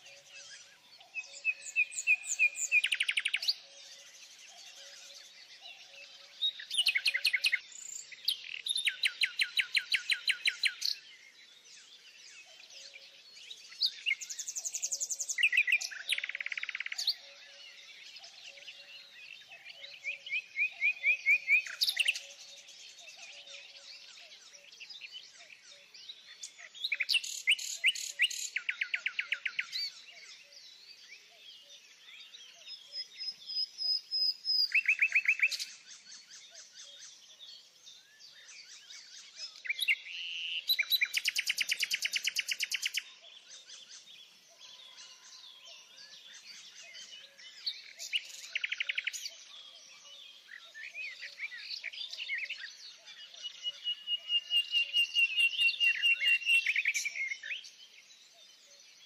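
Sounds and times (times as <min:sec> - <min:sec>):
quiet bird chirping: 0:00.0 - 0:59.0
songbirds trilling loudly: 0:00.0 - 0:59.0.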